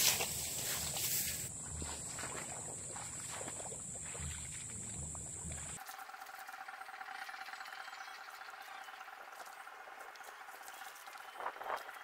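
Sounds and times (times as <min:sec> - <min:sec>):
droning chorus of calling wildlife: 0:01.6 - 0:12.0.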